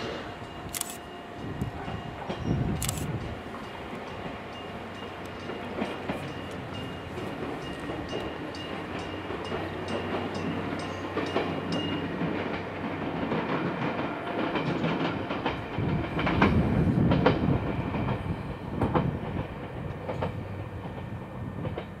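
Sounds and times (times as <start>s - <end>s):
train rumble: 0.0s - 22.0s
train wheels clicking over rail joints: 0.0s - 22.0s.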